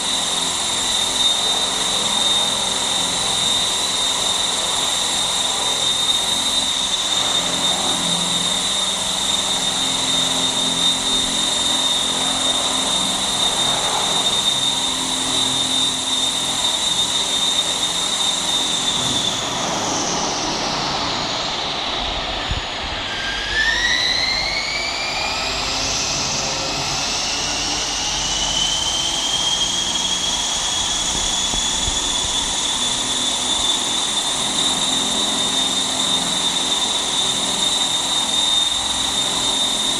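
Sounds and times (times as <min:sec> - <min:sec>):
electric motor high whine: 0:00.0 - 0:39.9
rotor blades rushing: 0:00.0 - 0:39.9.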